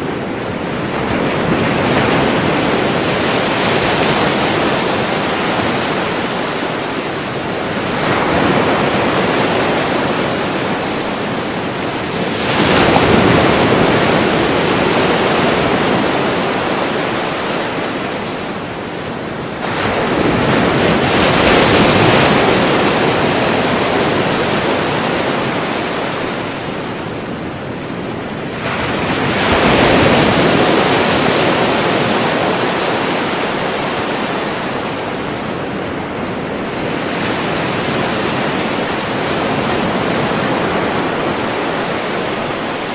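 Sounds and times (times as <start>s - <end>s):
ocean waves crashing on shore: 0.0s - 42.9s.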